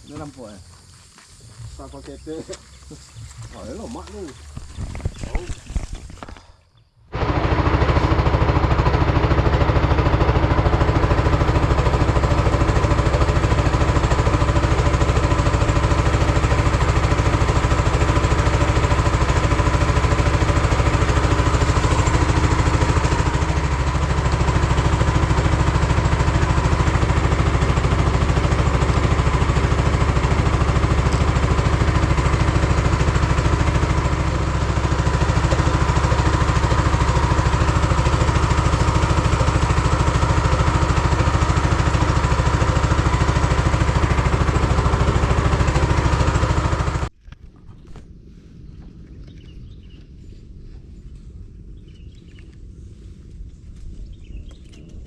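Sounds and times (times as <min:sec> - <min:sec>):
small petrol engine running: 0:00.0 - 0:06.4, 0:07.1 - 0:47.1.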